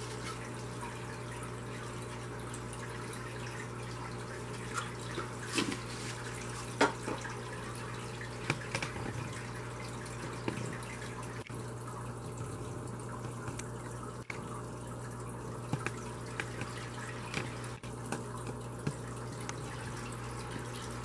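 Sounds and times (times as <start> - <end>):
low electrical hum: 0.0 - 21.0
water trickling and bubbling: 0.0 - 21.0.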